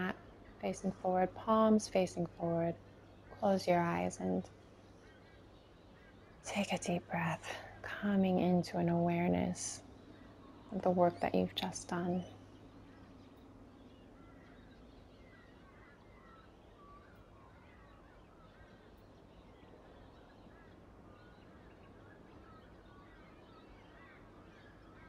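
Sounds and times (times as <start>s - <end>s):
birds chirping: 0.0s - 25.0s
low room hum: 0.0s - 25.0s.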